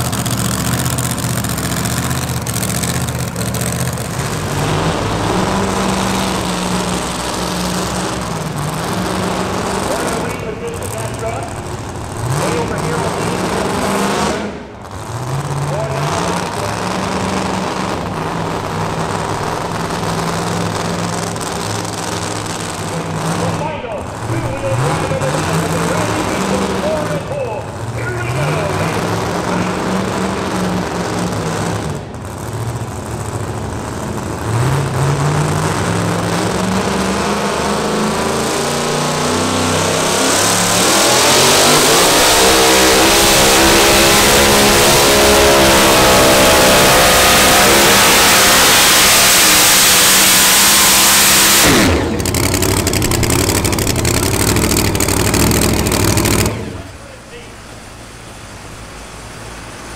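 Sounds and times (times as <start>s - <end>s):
pulling truck engine revving: 0.0s - 59.9s.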